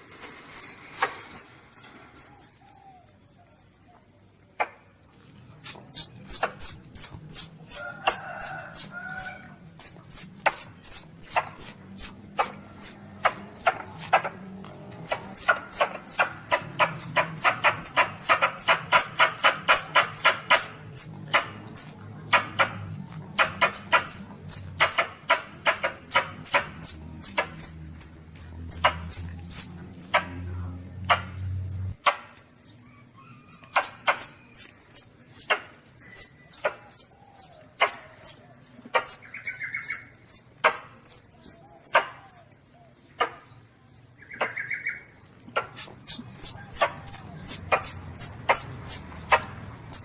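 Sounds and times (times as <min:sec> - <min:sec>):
civet kittens squeaking: 0:00.1 - 0:02.3, 0:05.6 - 0:29.7, 0:33.2 - 0:42.5, 0:45.5 - 0:50.0.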